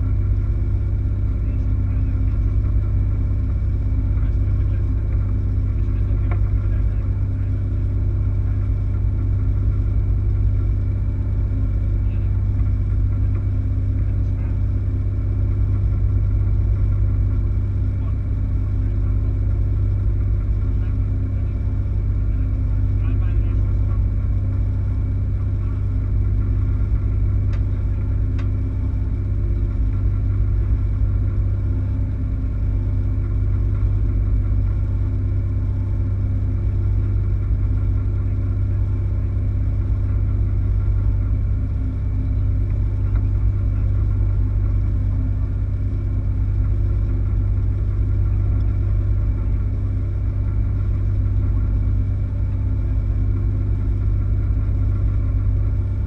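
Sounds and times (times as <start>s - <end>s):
boat engine low drone: 0.0s - 56.0s.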